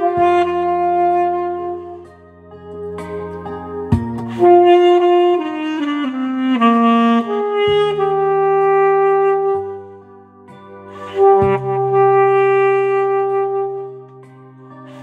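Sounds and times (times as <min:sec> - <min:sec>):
backing track bass notes: 0:00.0 - 0:15.0
saxophone melody: 0:00.0 - 0:15.0.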